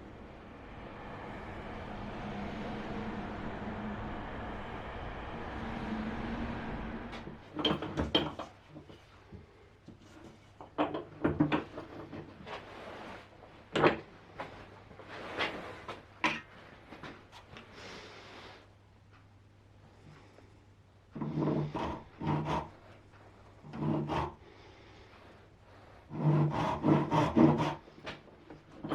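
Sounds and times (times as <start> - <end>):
steady hum and hiss: 0.0 - 28.9.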